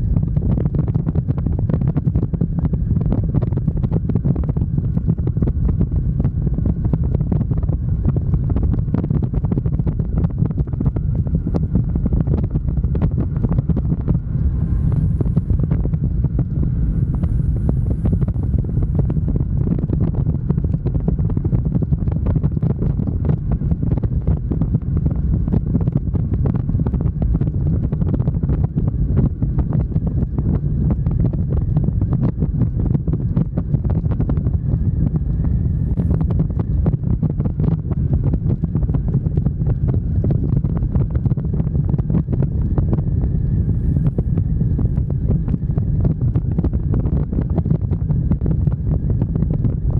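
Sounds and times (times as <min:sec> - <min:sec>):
motorcycle engine low rumble: 0:00.0 - 0:49.9
wind buffeting microphone: 0:00.0 - 0:49.9.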